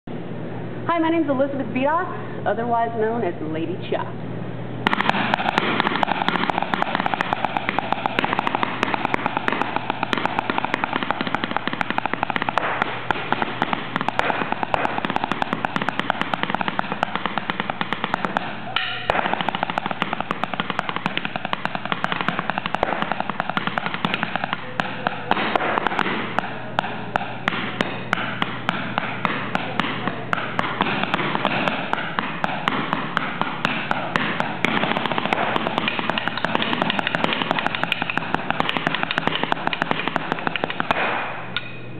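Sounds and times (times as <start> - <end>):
rapid drumstick strokes on wood: 4.9 - 41.1.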